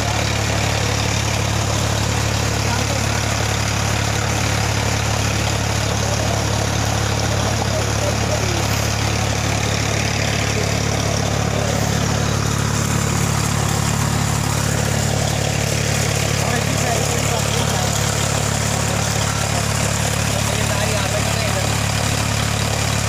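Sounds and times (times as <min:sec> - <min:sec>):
tractor engine humming: 0:00.0 - 0:23.0.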